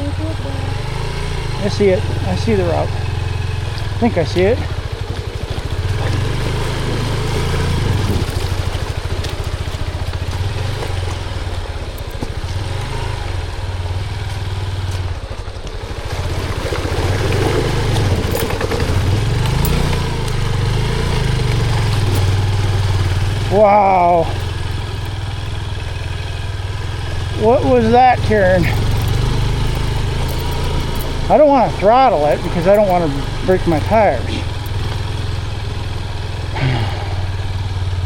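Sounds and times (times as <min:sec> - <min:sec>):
motorcycle engine at low revs: 0:00.0 - 0:38.0.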